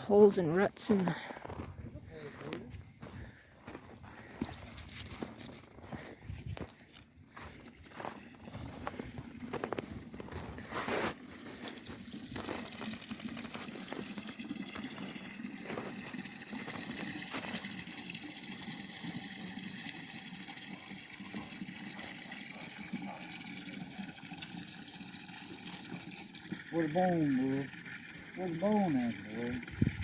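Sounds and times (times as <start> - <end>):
water filling a bucket: 2.3 - 30.0.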